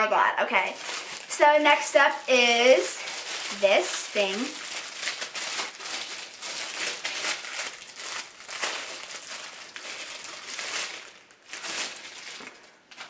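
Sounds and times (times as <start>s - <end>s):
packaging crinkling: 0.6s - 13.0s.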